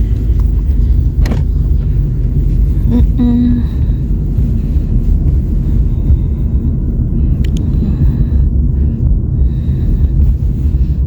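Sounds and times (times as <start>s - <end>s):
road noise inside car: 0.0s - 11.0s.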